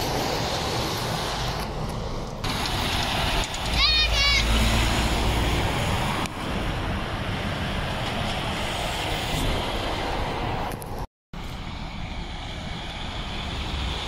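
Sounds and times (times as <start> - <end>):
lorry tyre and wind noise: 0.0 - 14.0.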